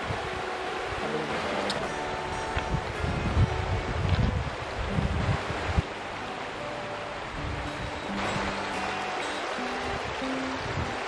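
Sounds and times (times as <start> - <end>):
shallow river rushing: 0.0 - 11.0
wind buffeting microphone: 0.0 - 11.0.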